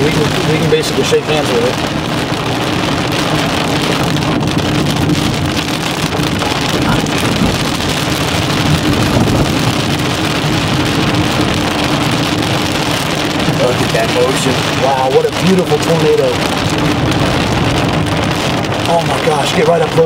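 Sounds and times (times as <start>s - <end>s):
car engine and road noise: 0.0s - 20.0s
wind and rain on car: 0.0s - 20.0s.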